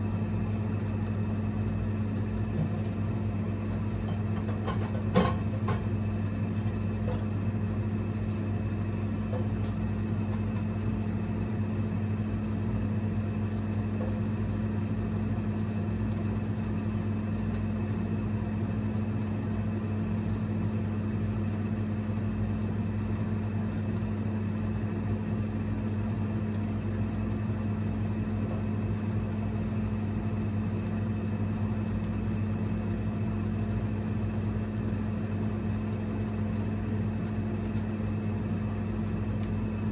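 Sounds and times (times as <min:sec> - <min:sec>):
induction cooktop humming: 0:00.0 - 0:39.9.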